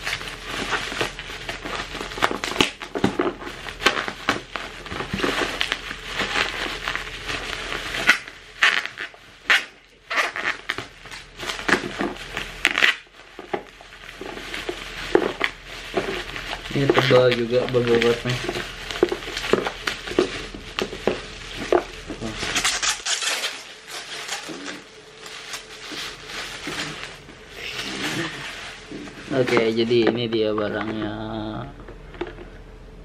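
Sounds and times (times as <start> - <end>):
bubble wrap crinkling: 0.0 - 32.6.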